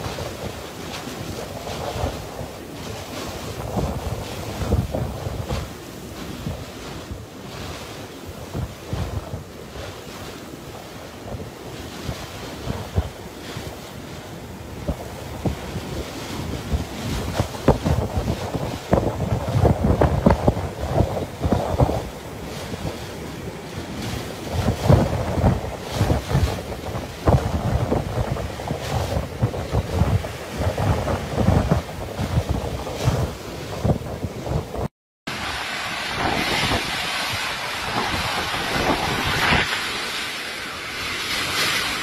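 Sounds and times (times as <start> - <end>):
strong wind buffeting microphone: 0.0 - 42.0.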